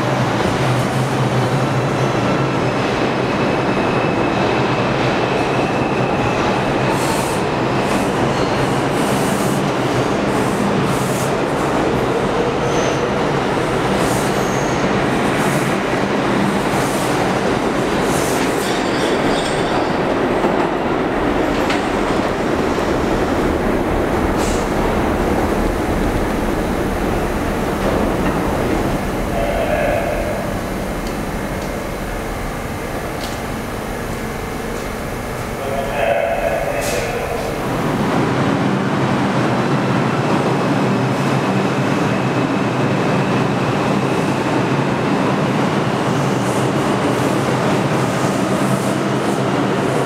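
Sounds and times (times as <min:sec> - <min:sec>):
subway train rumble: 0:00.0 - 0:50.0.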